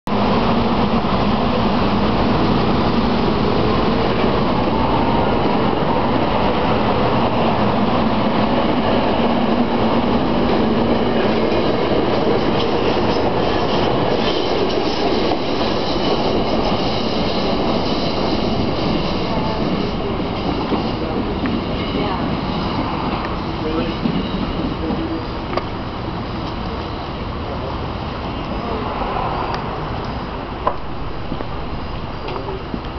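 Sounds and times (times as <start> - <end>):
steel wheels rumbling on rail: 0.1 - 32.9.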